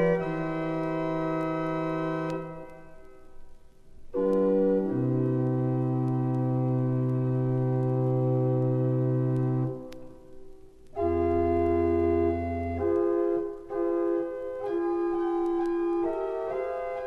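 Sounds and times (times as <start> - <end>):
pipe organ playing held chords: 0.0 - 3.0, 4.1 - 9.9, 11.0 - 17.0.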